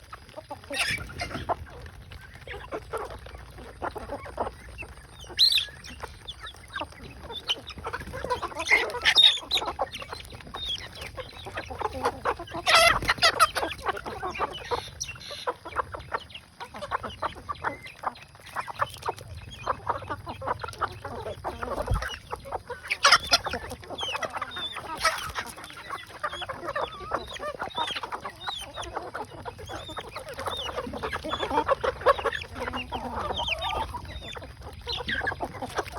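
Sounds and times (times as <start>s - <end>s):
chickens clucking: 0.0s - 35.9s
louder chicken calls: 2.5s - 35.9s.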